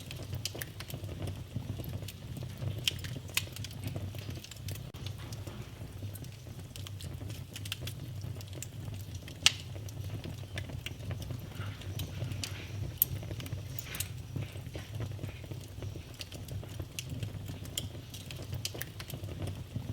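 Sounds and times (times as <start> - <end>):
fire crackling and popping: 0.0 - 19.9
fire rumbling in fireplace: 0.0 - 19.9.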